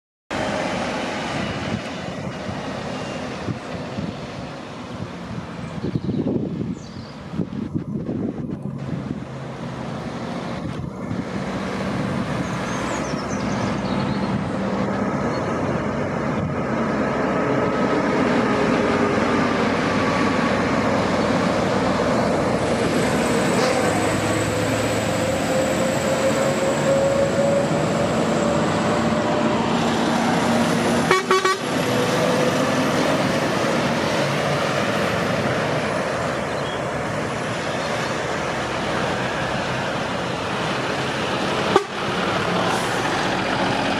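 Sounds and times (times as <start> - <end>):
heavy diesel engines passing: 0.3 - 43.9.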